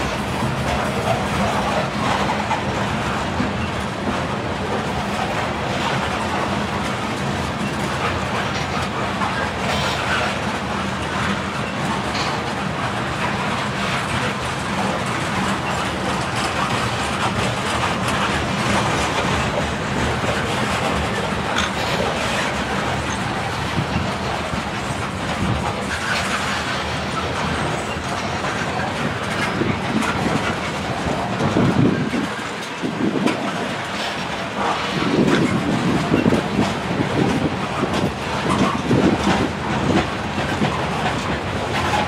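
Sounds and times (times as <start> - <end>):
freight train wheels rumbling: 0.0 - 42.0
wheels clacking over rail joints: 0.0 - 42.0.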